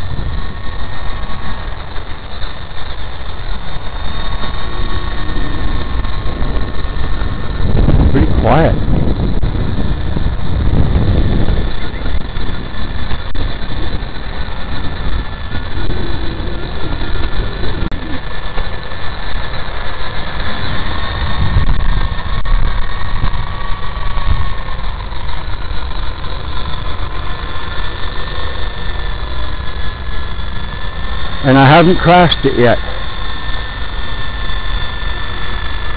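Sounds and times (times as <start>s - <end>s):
toy helicopter motor whine: 0.0s - 35.9s
wind rumble on microphone: 0.0s - 35.9s.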